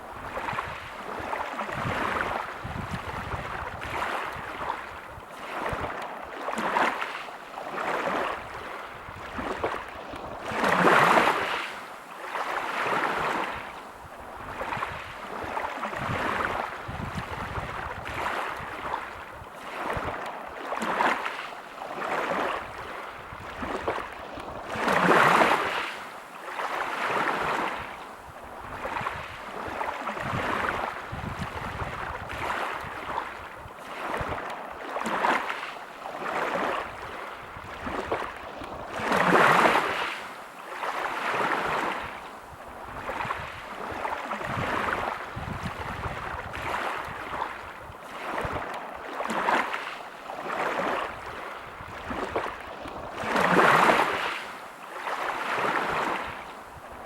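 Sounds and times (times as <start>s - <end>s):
waves breaking on pebble beach: 0.0s - 13.8s, 14.4s - 28.0s, 28.7s - 42.2s, 42.9s - 56.8s.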